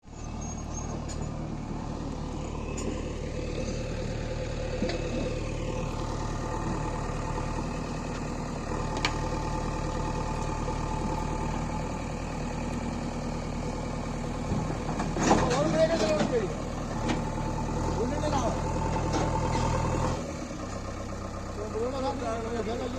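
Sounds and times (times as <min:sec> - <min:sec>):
diesel engine idling: 0:00.0 - 0:22.9.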